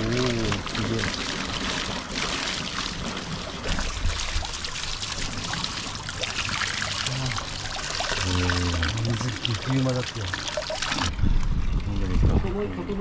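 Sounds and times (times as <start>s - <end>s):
water running and trickling: 0.0s - 13.0s.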